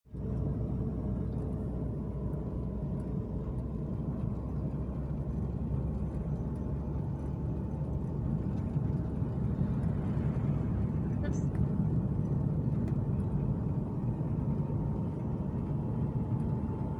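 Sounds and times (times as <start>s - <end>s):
car engine and road rumble: 0.1s - 16.9s.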